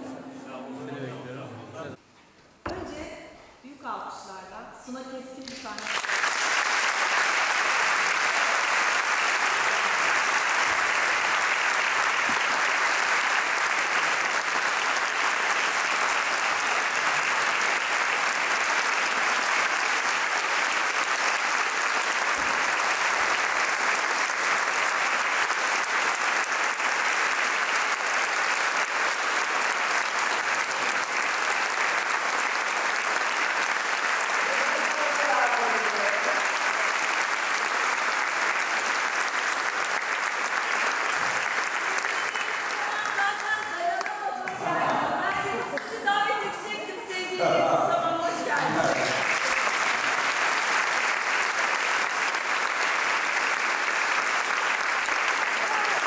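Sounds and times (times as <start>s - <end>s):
audience applauding: 5.5s - 56.0s.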